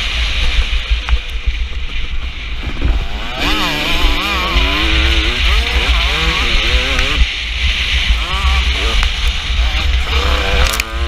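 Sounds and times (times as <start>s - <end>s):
two-stroke motocross engine revving: 0.0s - 11.0s.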